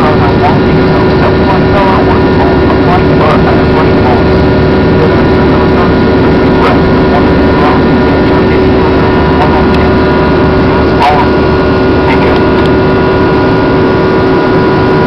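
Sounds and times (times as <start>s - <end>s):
aircraft cabin engine and airflow noise: 0.0s - 15.0s.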